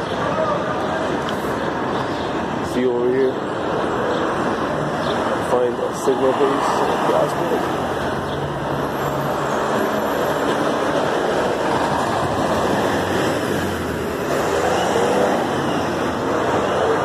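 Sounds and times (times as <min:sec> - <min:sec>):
car traffic passing: 0:00.0 - 0:17.0.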